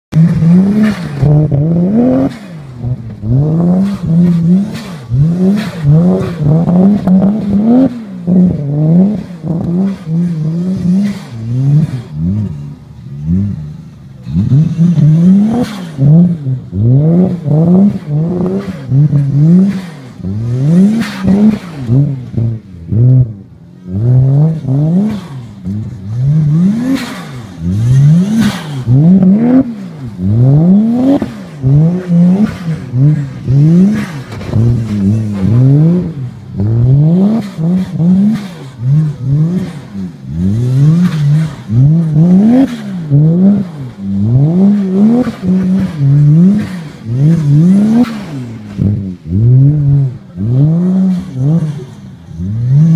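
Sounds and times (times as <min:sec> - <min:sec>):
car engine revving hard: 0:00.0 - 0:52.9.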